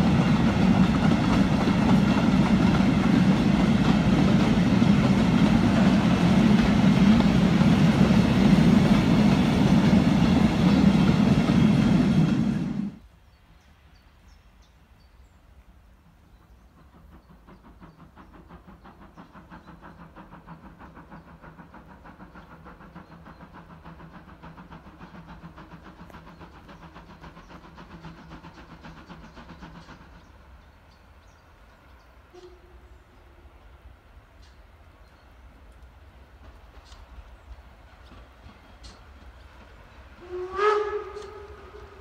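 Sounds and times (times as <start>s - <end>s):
distant steam locomotive chuffing: 0.0s - 42.0s.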